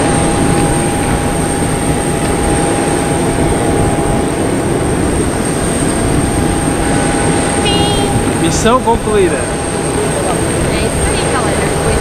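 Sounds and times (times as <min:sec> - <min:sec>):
airliner cabin roar: 0:00.0 - 0:12.0
constant high whine: 0:00.0 - 0:12.0.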